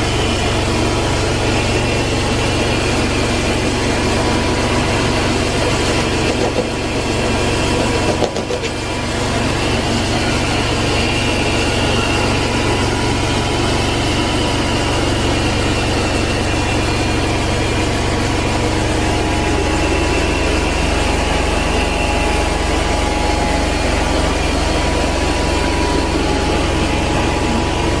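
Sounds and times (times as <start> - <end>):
vacuum motor drone: 0.0 - 28.0.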